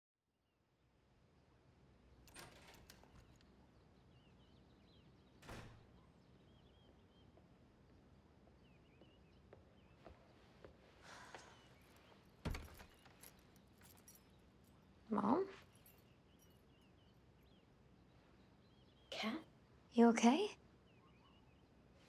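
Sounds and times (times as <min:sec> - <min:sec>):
distant birds chirping: 0:01.4 - 0:22.0.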